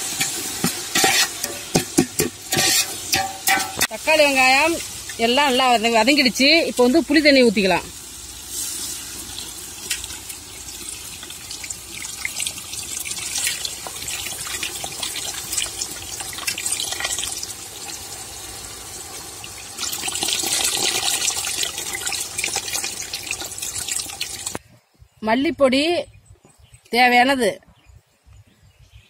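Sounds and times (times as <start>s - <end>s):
water pouring and splashing into pot: 0.0s - 24.6s.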